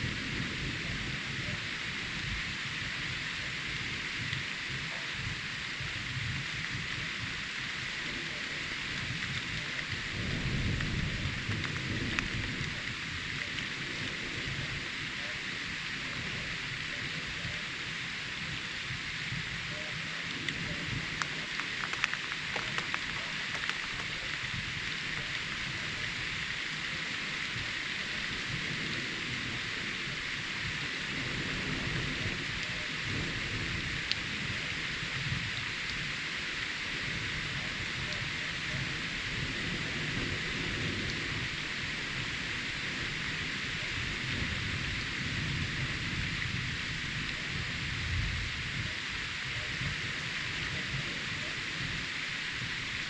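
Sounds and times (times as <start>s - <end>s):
low rumble of thunder: 0.0s - 53.0s
raindrop ticks: 0.0s - 53.0s
steady rain hissing: 0.0s - 53.0s.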